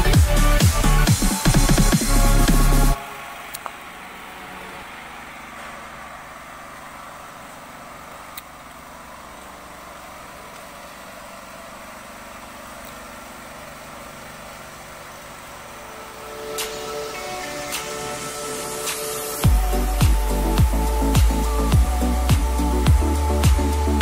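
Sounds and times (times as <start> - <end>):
faint engine hum: 0.0 - 24.0.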